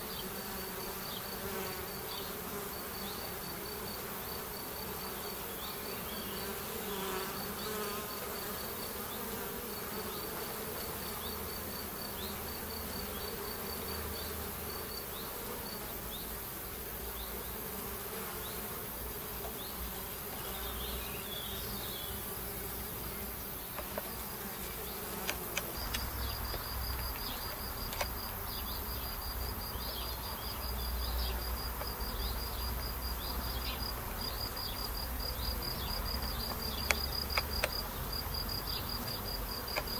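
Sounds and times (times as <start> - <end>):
honeybees buzzing: 0.0 - 39.9.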